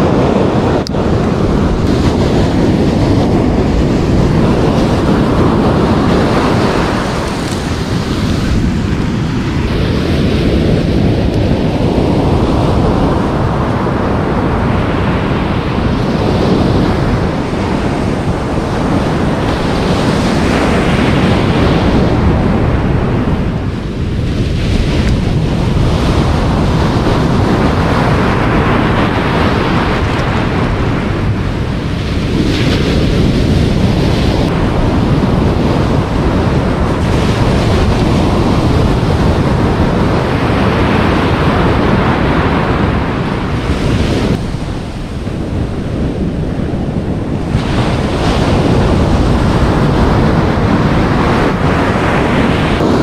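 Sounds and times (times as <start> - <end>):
surf breaking on beach: 0.0 - 53.0
wind buffeting microphone: 0.0 - 53.0.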